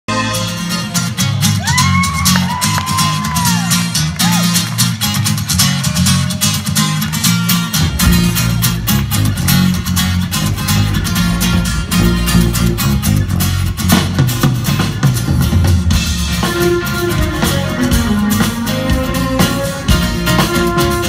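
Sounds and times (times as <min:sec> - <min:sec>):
electric bass guitar: 0:00.1 - 0:21.0
acoustic guitar strumming: 0:03.0 - 0:21.0.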